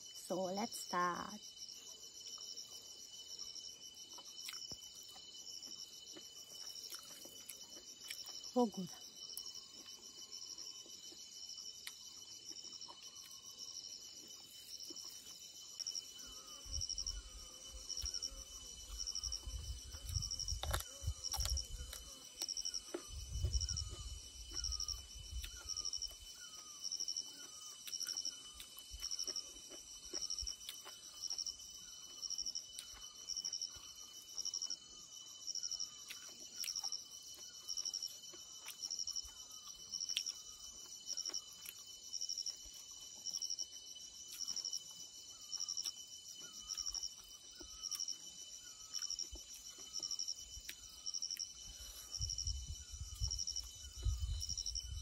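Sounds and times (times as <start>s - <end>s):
steady high insect tone: 0.0s - 55.0s
insects chirping in pulsed bursts: 1.4s - 38.1s, 42.1s - 55.0s.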